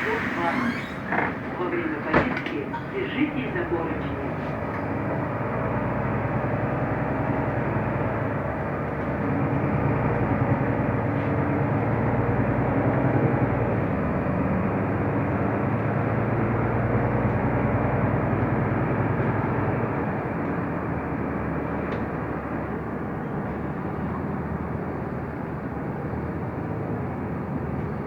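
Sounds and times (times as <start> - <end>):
bus engine and road drone: 0.0 - 28.0.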